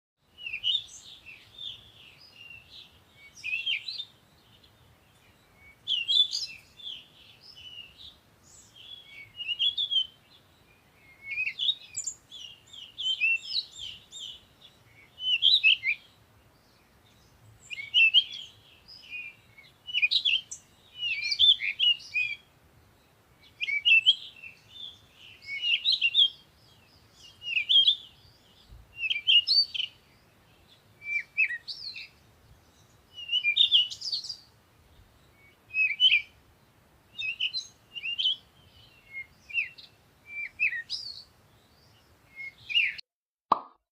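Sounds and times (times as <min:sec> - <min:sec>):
songbird chirping: 0:00.2 - 0:43.7.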